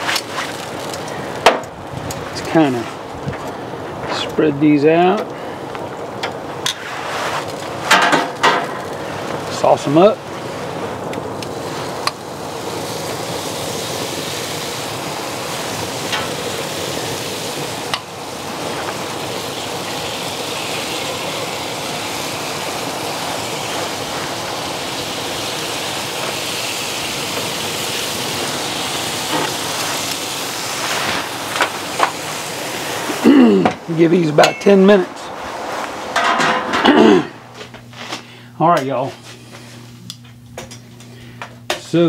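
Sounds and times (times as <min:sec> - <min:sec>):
ribs sizzling on a grill: 0:00.0 - 0:35.1.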